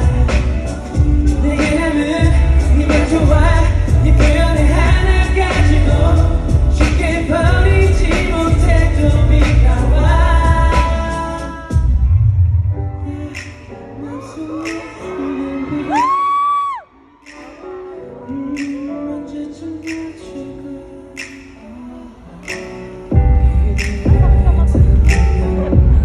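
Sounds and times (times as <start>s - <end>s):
man singing: 0.0s - 12.2s, 13.0s - 26.0s
live pop song with bass beat: 0.0s - 26.0s.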